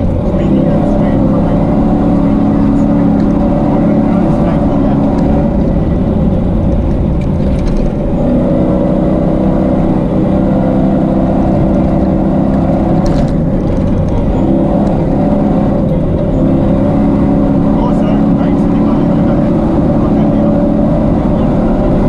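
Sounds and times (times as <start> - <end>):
truck engine revving high: 0.0 - 22.0.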